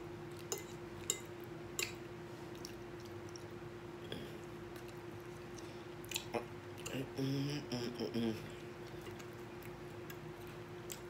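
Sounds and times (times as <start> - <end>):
faint steady hum: 0.0 - 11.0
chewing and eating: 0.3 - 7.2, 8.3 - 11.0.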